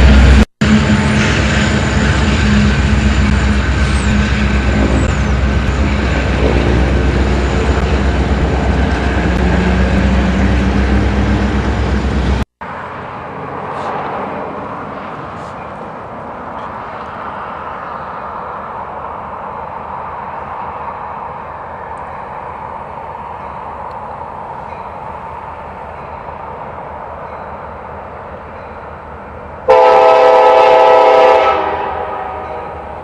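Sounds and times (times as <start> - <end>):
diesel locomotive rumbling: 0.0 - 33.0.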